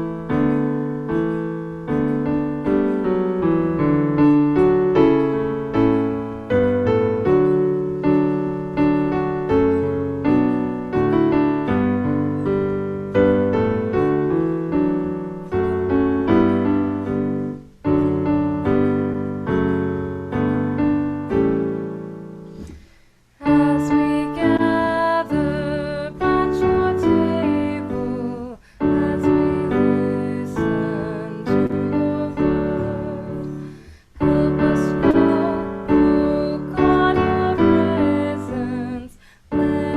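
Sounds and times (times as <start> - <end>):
slow piano piece: 0.0 - 39.9.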